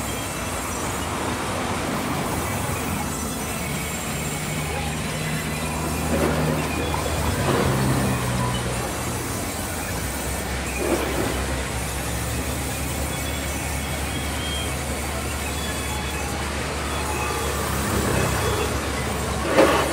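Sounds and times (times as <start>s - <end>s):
band saw cutting wood: 1.8s - 19.9s.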